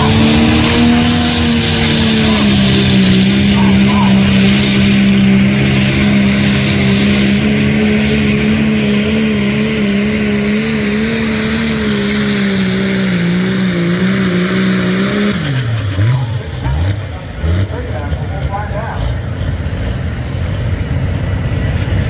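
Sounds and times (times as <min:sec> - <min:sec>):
diesel engine at high revs: 0:00.0 - 0:22.0.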